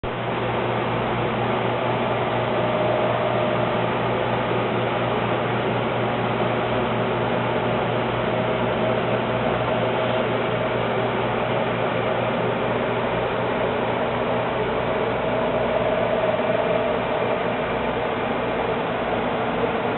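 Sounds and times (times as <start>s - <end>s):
mechanical hum and hiss: 0.0s - 19.9s.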